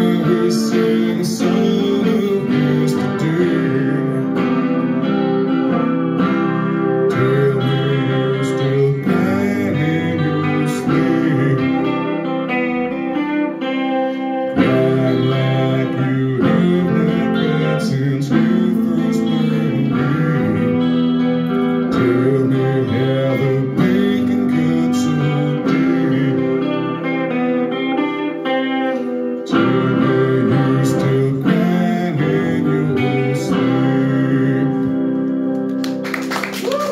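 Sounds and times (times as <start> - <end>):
man singing: 0.0 - 35.5
electric guitar strummed: 0.0 - 36.9.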